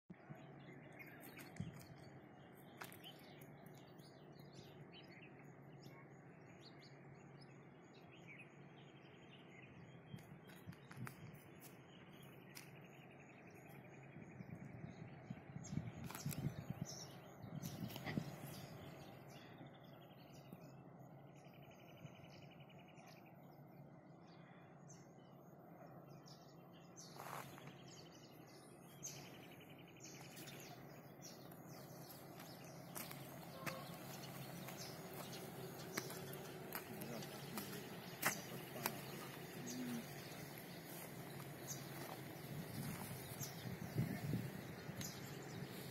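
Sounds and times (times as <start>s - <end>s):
faint birds chirping: 0.0s - 45.9s
steady low hum: 0.2s - 45.9s.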